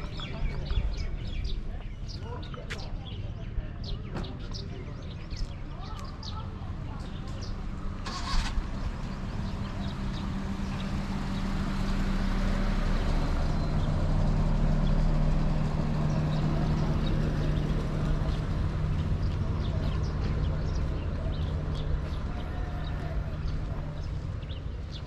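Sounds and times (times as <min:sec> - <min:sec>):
engine humming: 0:04.0 - 0:25.0.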